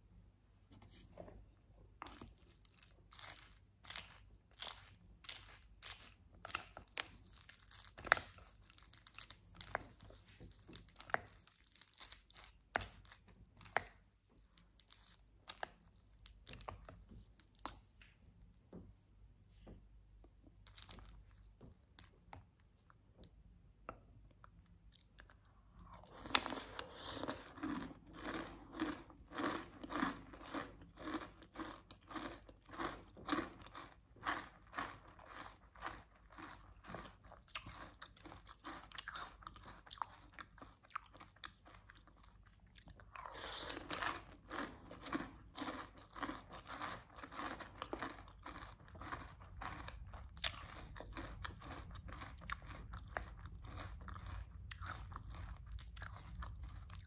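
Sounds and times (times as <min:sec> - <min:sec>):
chewing crunchy cereal: 0:02.0 - 0:17.7, 0:20.3 - 0:57.0.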